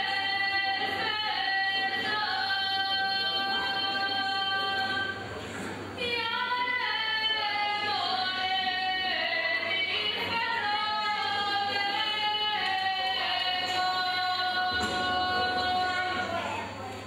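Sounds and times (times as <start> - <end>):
woman singing folk song: 0.0 - 5.2, 6.0 - 16.4.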